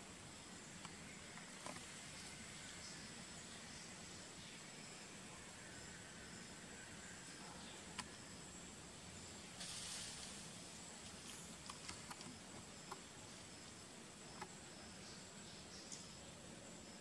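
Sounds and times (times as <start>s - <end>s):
soft hiss: 0.0s - 17.0s.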